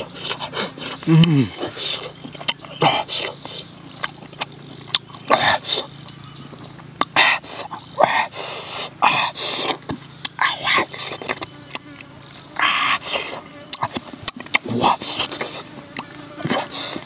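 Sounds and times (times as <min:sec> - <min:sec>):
man chewing and lip-smacking: 0:00.0 - 0:12.1, 0:13.0 - 0:17.0
high-pitched insect drone: 0:00.0 - 0:17.0.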